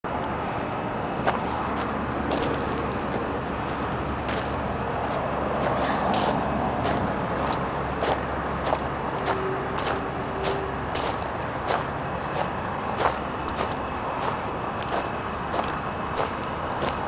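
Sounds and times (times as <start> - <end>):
truck engine idling: 0.1 - 17.0.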